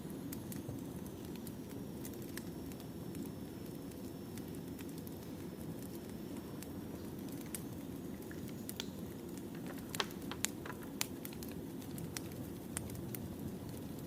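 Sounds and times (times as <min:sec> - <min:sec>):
wood fire crackling: 0:00.0 - 0:14.0
sharp pops of fire: 0:00.3 - 0:14.0.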